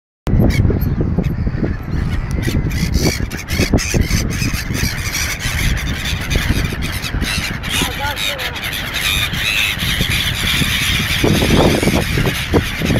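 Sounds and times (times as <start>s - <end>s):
gulls calling: 0.3s - 12.9s
wind buffeting microphone: 0.3s - 12.9s.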